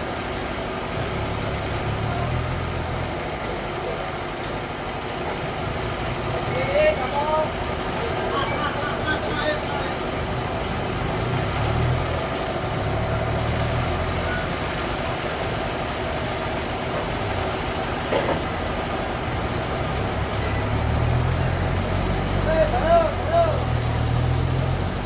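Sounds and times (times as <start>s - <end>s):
bandsaw sawmill running: 0.0s - 25.0s.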